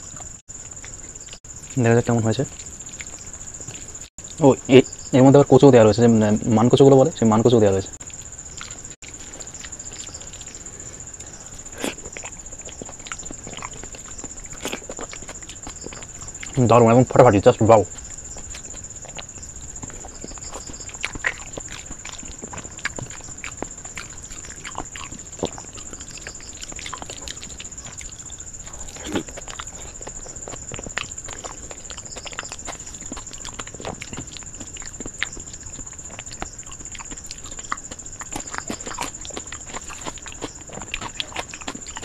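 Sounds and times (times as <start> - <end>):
person chewing food: 0.0 - 4.4, 7.9 - 42.0.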